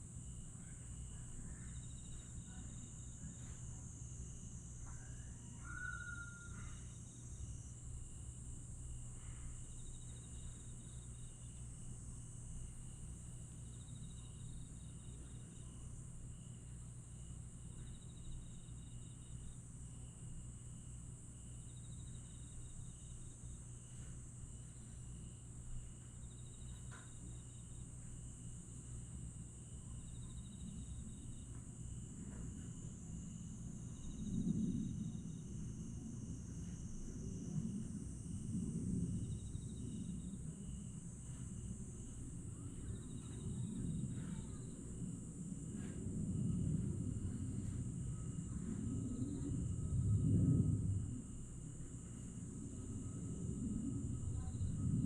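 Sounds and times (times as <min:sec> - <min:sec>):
crickets shrilling: 0:00.0 - 0:55.0
insect trills: 0:00.0 - 0:55.0
low steady hum: 0:00.0 - 0:55.0.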